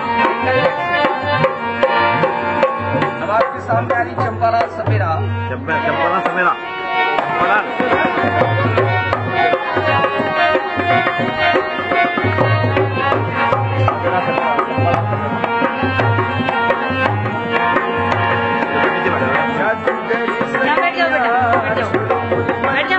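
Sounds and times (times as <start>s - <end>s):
hand drum fast rhythm: 0.0s - 6.6s, 7.2s - 22.9s
sustained folk melody: 0.0s - 22.9s.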